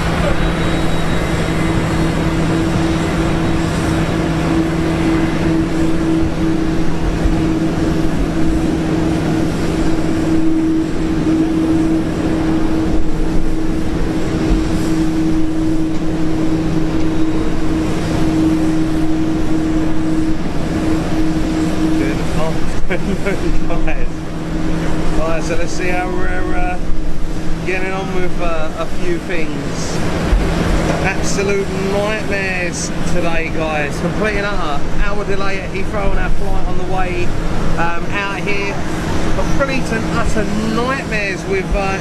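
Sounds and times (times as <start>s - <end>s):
aircraft engines running: 0.0s - 42.0s.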